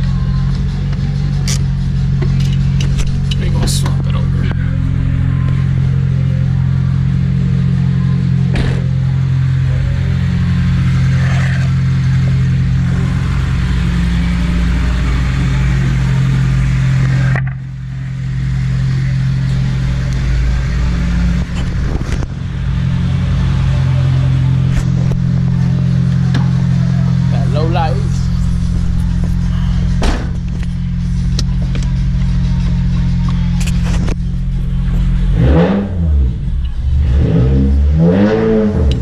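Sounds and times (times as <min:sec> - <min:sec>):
car engine humming: 0:00.0 - 0:39.0.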